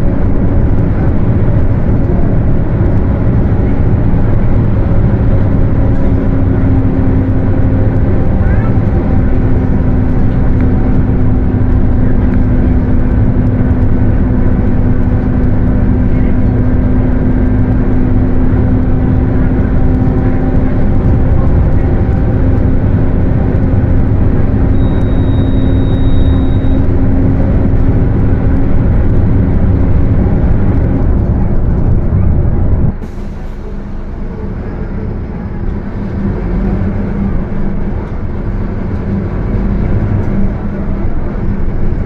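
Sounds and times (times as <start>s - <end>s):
bus driving: 0.0s - 42.0s
droning differential hum: 0.0s - 42.0s.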